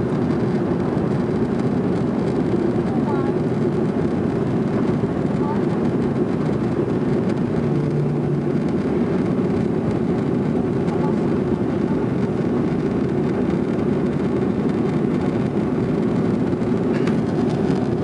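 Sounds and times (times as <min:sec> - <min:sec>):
jet engines and airflow rumble: 0:00.0 - 0:18.0.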